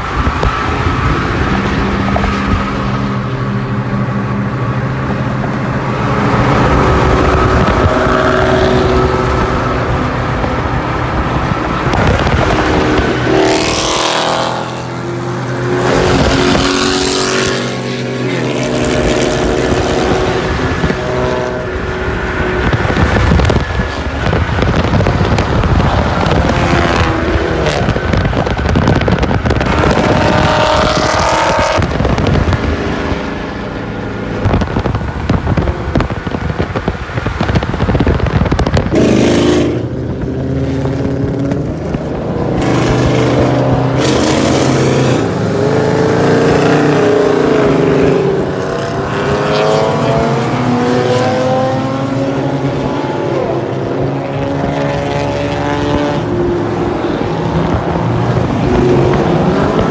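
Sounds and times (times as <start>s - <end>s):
car engine accelerating: 0.0s - 59.9s
wind and road noise: 0.0s - 59.9s.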